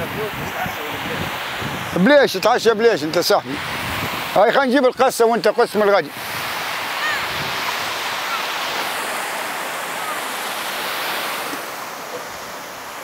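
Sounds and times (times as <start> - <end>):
sea waves washing onto beach: 0.0 - 13.0.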